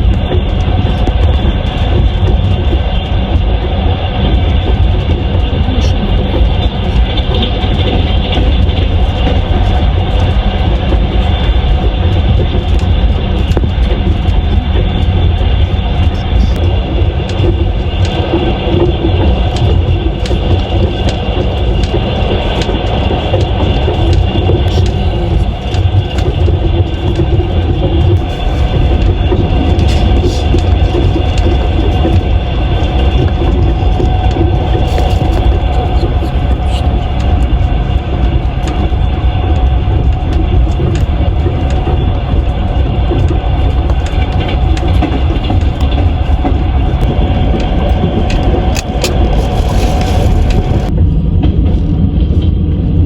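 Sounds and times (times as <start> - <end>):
train carriage rumble: 0.0 - 53.0.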